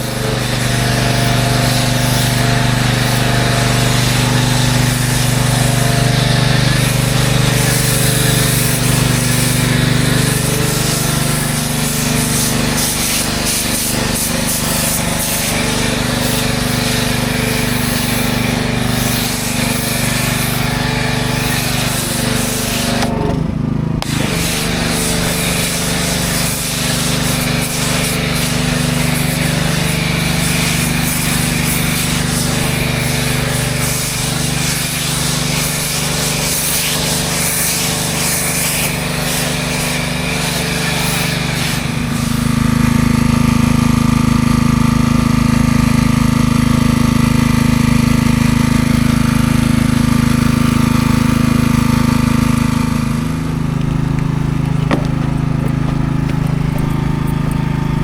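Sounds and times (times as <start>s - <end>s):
motor-driven machine running: 0.0s - 43.2s, 49.7s - 58.0s.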